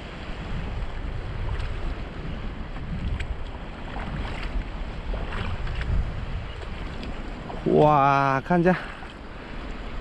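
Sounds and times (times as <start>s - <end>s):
wind buffeting microphone: 0.0s - 10.0s
feet splashing in shallow water: 0.3s - 8.0s, 8.6s - 10.0s.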